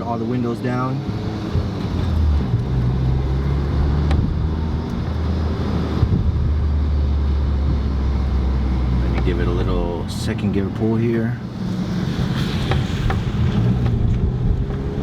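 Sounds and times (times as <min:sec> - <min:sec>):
road noise: 0:00.0 - 0:15.0
low exhaust drone: 0:01.0 - 0:15.0.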